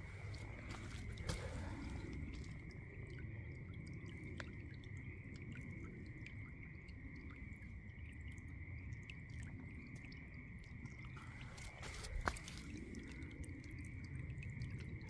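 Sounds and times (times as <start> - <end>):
small ticks and drips: 0.0 - 15.0.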